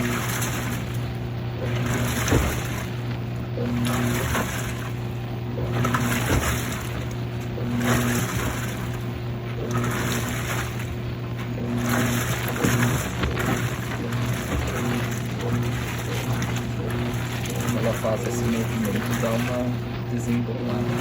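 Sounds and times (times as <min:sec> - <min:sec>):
load swishing in washing machine: 0:00.0 - 0:21.0
washing machine motor hum: 0:00.0 - 0:21.0.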